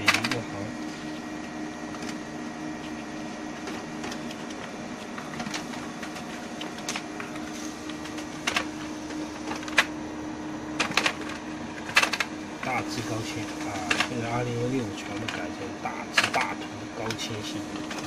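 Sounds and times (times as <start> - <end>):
laser printer printing: 0.0 - 18.0.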